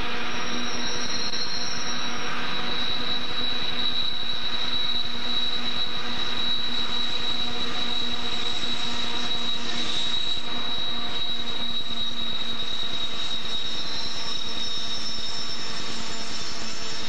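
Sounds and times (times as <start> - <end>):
high-pitched wheel squeal: 0.0 - 17.0.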